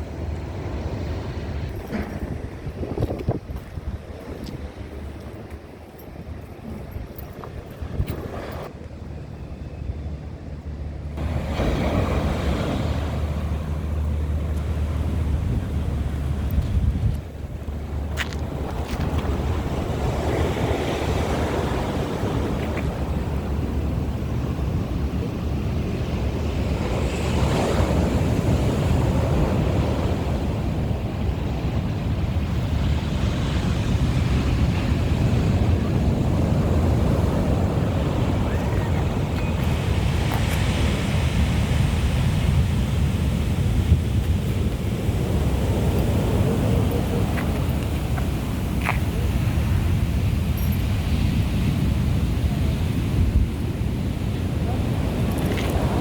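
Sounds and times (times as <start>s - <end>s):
wind rumble on microphone: 0.0s - 56.0s
sea waves breaking on beach: 11.2s - 56.0s.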